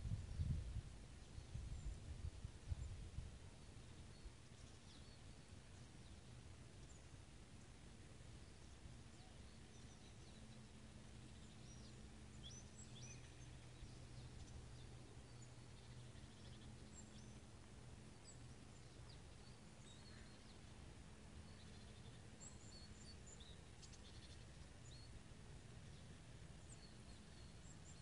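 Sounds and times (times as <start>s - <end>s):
low hum and hiss: 0.0s - 28.0s.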